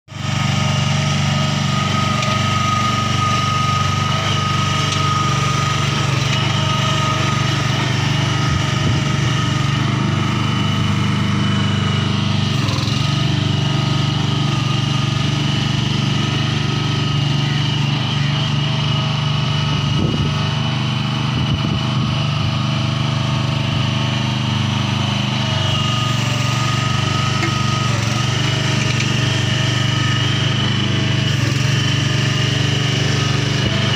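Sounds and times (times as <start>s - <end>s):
petrol engine running: 0.1s - 33.9s.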